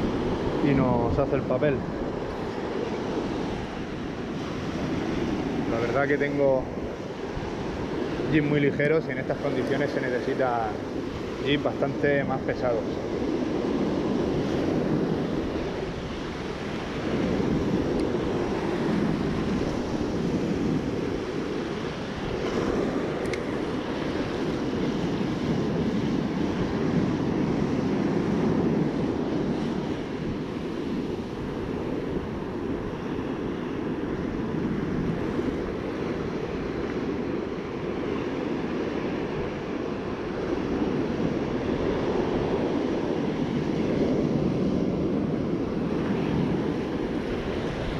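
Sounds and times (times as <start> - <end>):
surf breaking on a beach: 0.0 - 47.9
wind buffeting microphone: 0.0 - 47.9.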